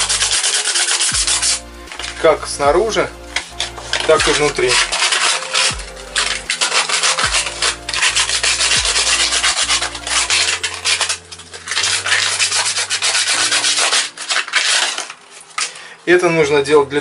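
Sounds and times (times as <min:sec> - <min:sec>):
sandpaper rubbing plastic: 0:00.0 - 0:16.6.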